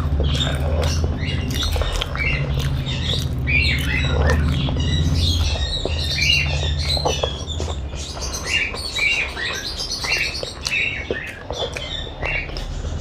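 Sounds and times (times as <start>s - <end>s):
chewing and wet mouth smacks: 0.0s - 7.9s, 10.0s - 13.0s.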